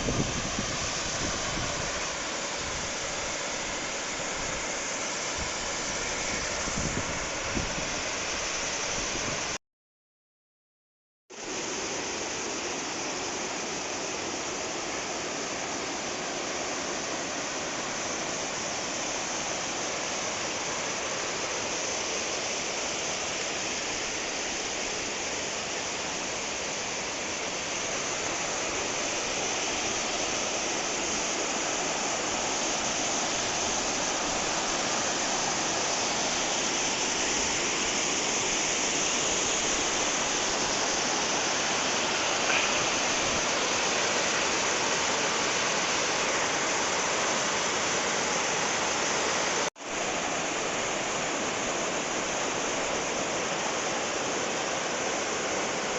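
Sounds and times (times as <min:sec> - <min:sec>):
stream cascading over rocks: 0:00.0 - 0:09.2, 0:11.4 - 0:55.9.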